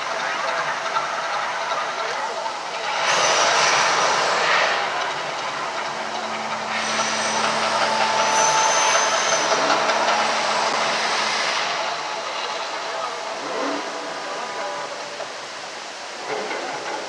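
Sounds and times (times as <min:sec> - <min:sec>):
gas fire jets roaring: 0:00.0 - 0:17.0.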